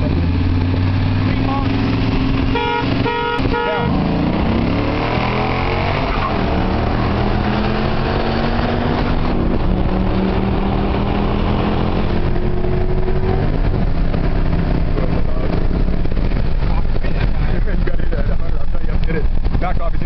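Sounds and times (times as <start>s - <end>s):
car engine at full throttle: 0.0s - 20.0s
wind and road noise: 0.0s - 20.0s.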